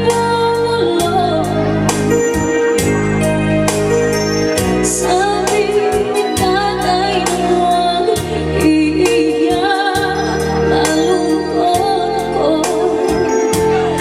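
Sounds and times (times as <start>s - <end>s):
woman singing: 0.0s - 2.4s, 4.8s - 14.0s
live band music: 0.0s - 14.0s.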